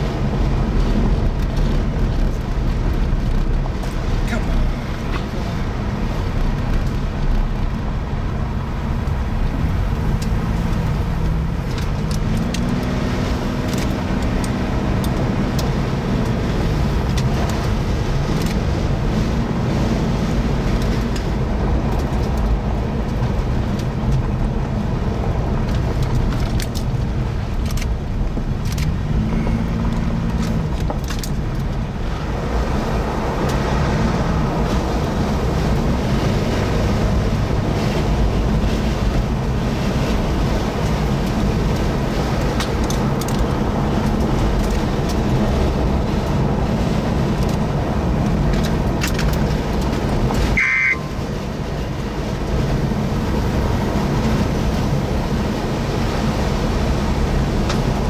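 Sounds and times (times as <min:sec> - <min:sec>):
car engine: 0:00.0 - 0:58.0
road noise: 0:00.0 - 0:58.0.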